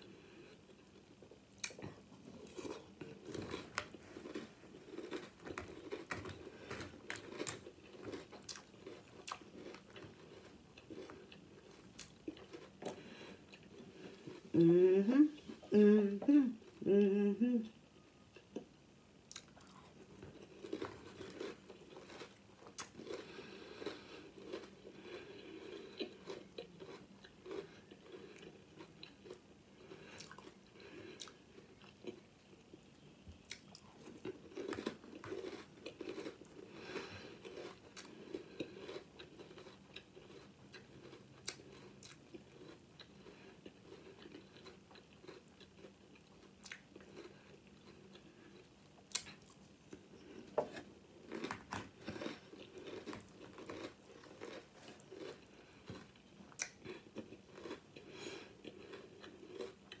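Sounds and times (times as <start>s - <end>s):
person chewing crunchy cereal: 0.0s - 14.6s, 19.3s - 60.0s.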